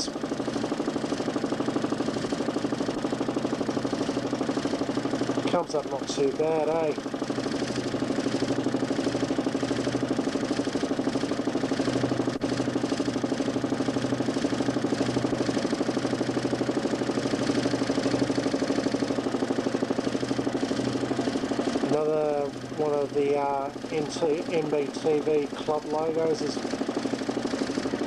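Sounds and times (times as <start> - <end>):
motor spinning disc drone: 0.0 - 28.0.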